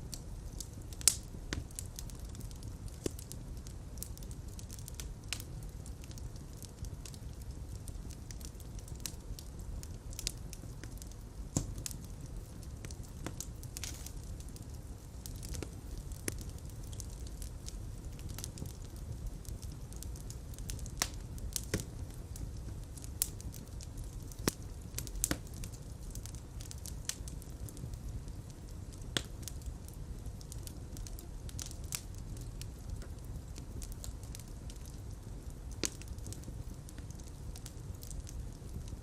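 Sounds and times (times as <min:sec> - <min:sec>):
fire crackling with pops: 0:00.0 - 0:39.0
low rumble of flames: 0:00.0 - 0:39.0.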